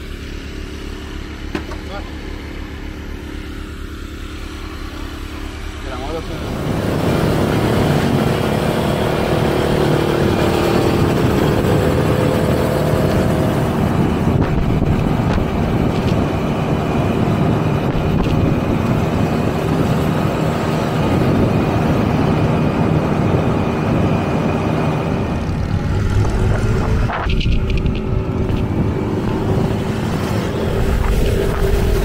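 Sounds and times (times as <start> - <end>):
moped engine running: 0.0 - 32.0
wind rushing over microphone: 6.4 - 32.0.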